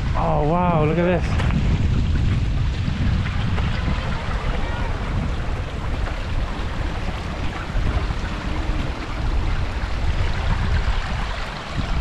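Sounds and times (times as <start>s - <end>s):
rushing water: 0.0s - 12.0s
wind buffeting microphone: 0.0s - 12.0s.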